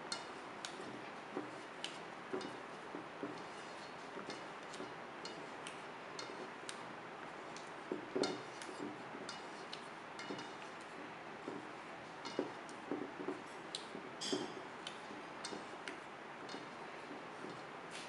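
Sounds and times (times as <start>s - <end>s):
spatula knocking against bowl: 0.0s - 6.8s, 7.6s - 17.7s
spatula stirring in metal bowl: 0.0s - 18.0s.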